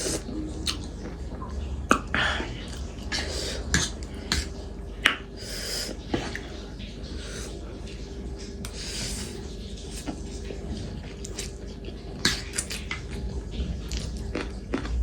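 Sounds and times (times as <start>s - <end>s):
soft eating noises: 0.0s - 15.0s.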